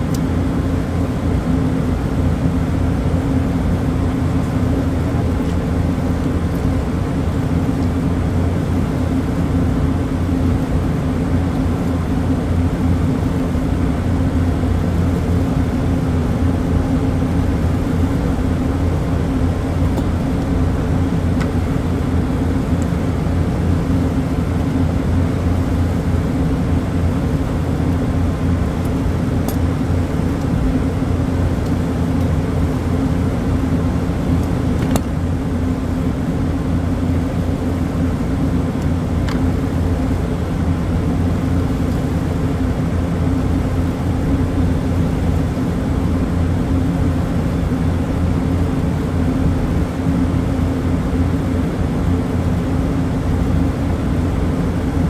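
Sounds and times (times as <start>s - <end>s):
refrigeration compressors humming: 0.0s - 55.0s.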